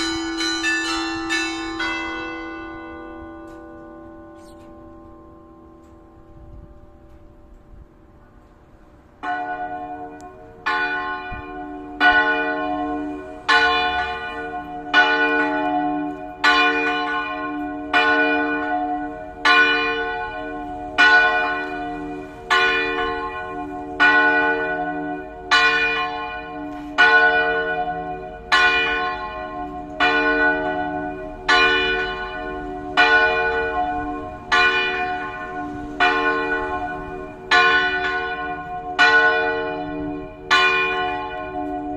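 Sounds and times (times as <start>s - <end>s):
church bell ringing: 0.0s - 41.9s.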